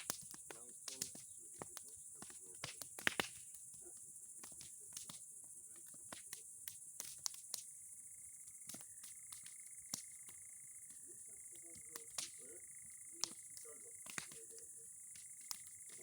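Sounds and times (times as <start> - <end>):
bonfire crackling and popping: 0.0 - 16.0
insects chirring: 0.0 - 16.0.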